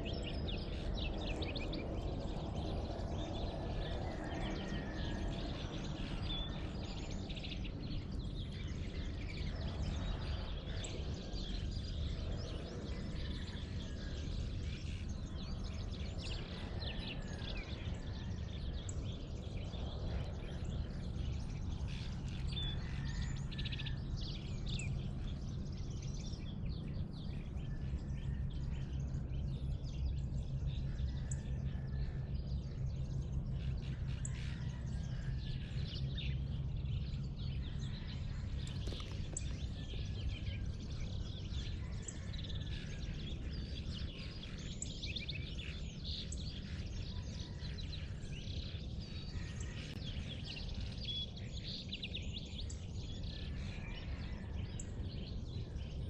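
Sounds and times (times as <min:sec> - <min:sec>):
steady low hum: 0:00.0 - 0:56.0
small birds chirping: 0:05.5 - 0:56.0.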